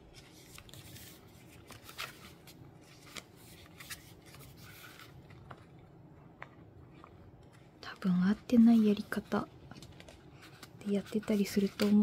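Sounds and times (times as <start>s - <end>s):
paper and plastic rustling: 0.0s - 12.0s.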